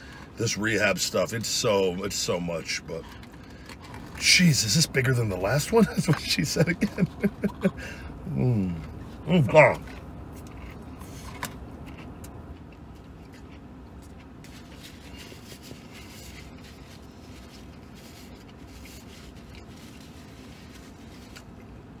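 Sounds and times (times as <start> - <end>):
low background hum: 0.0 - 22.0
man chewing: 3.0 - 4.2, 5.6 - 22.0.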